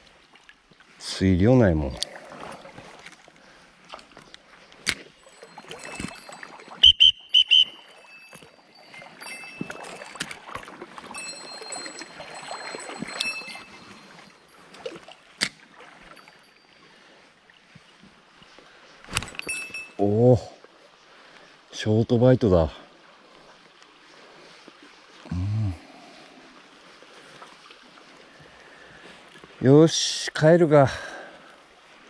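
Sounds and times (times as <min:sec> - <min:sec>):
water sloshing and splashing: 0:00.0 - 0:21.7, 0:22.8 - 0:29.7, 0:31.1 - 0:32.0.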